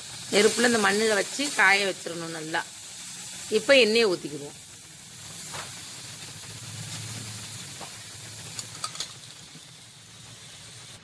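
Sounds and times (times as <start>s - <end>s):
hot metal pan sizzling: 0.0s - 11.0s.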